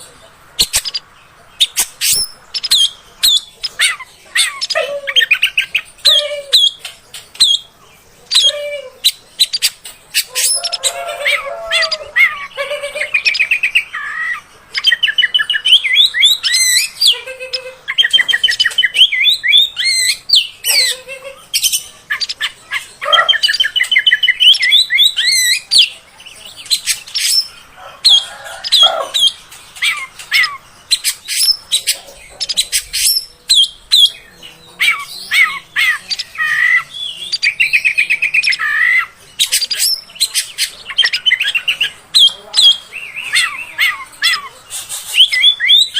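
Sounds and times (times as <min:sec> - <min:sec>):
songbird singing varied song: 0:00.0 - 0:45.9.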